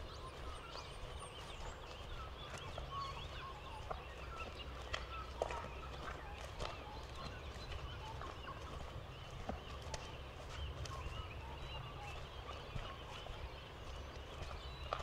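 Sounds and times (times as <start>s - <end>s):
birds chirping: 0.0s - 15.0s
footsteps: 0.0s - 15.0s.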